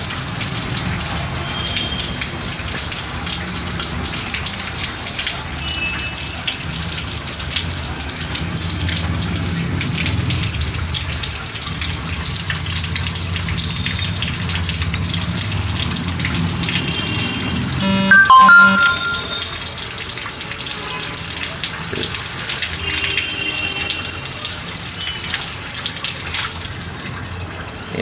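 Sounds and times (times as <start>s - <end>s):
water pouring from tap: 0.0s - 17.8s, 18.8s - 28.0s.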